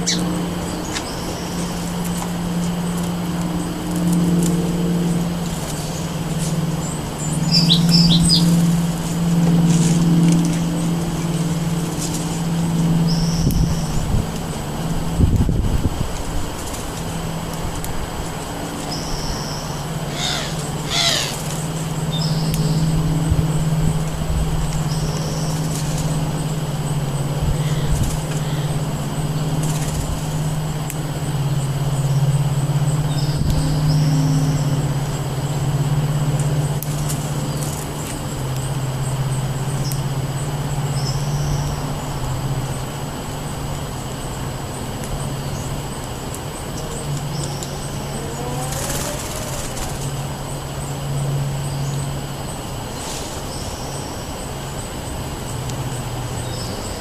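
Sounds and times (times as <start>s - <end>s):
songbirds chirping: 0.0s - 57.0s
steady low hum: 0.0s - 57.0s
wind: 0.0s - 57.0s.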